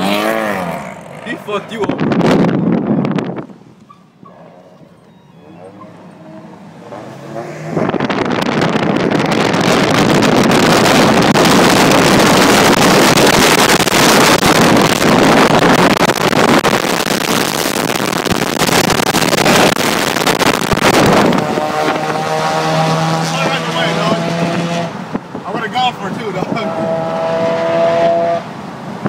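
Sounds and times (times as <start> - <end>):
rushing wind noise: 0.0 - 3.9, 6.1 - 29.0
car engine at high speed: 0.0 - 4.6, 5.4 - 29.0.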